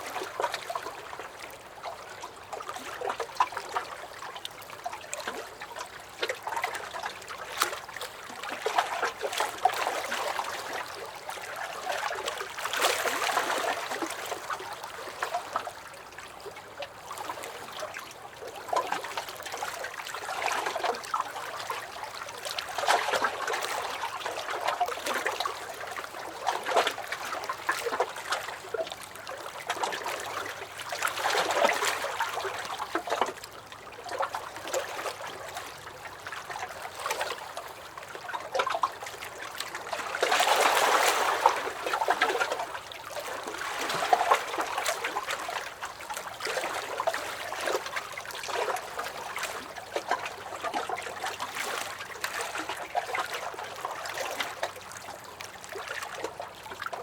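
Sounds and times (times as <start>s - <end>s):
waves lapping against a dock: 0.0s - 57.0s.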